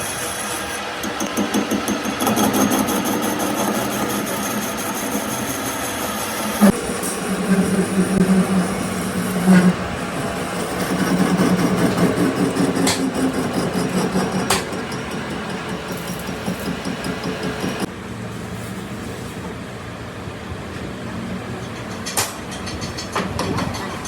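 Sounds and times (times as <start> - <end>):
workshop machinery humming: 0.0 - 21.5.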